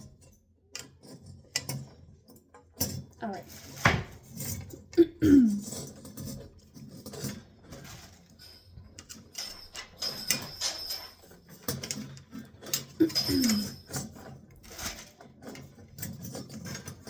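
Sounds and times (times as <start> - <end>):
small metal parts clinking: 0.0 - 17.0.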